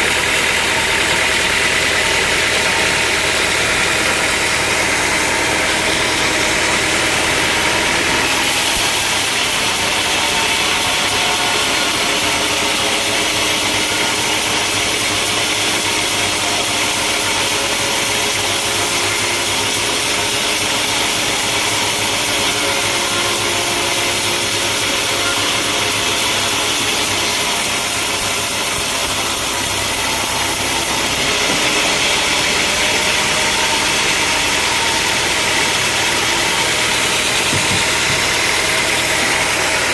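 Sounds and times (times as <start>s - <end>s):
saw cutting through log: 0.0s - 39.9s
sawmill machinery running: 0.0s - 39.9s.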